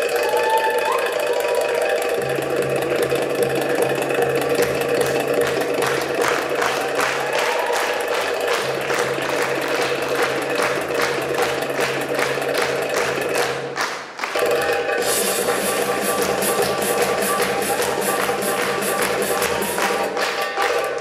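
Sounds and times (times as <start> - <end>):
rapid drum strikes: 1.2 - 21.0.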